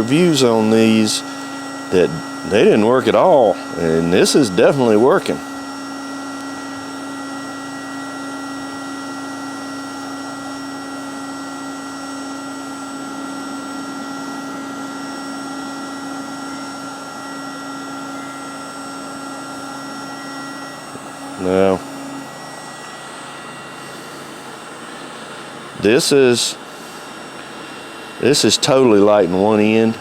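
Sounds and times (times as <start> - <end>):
fan blowing hot air hiss: 0.0 - 30.0
motor hum: 0.0 - 30.0.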